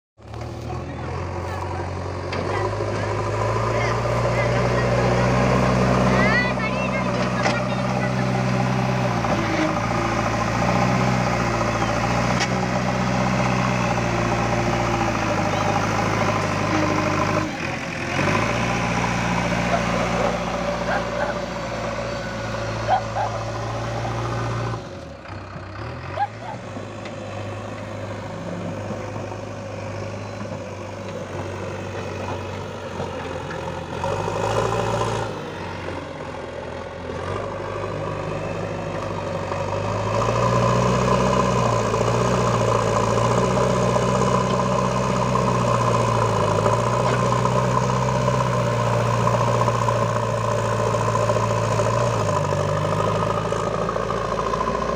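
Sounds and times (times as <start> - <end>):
diesel engine running: 0.2 - 54.9.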